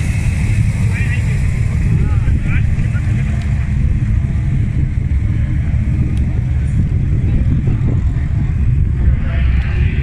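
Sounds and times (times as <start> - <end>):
car engines rumbling past: 0.0 - 10.0.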